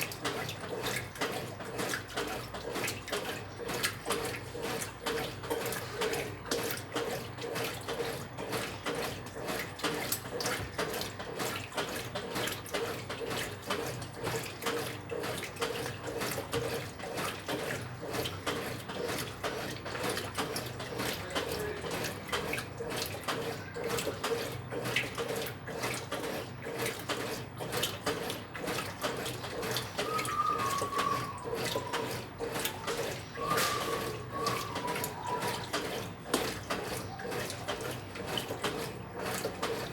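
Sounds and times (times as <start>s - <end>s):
washing machine low hum: 0.0s - 39.9s
water churning in washing machine: 0.0s - 39.9s.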